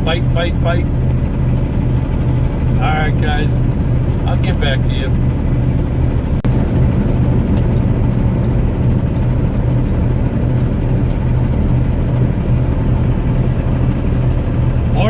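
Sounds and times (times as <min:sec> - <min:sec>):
road and wind noise: 0:00.0 - 0:15.0
truck diesel engine droning: 0:00.0 - 0:15.0.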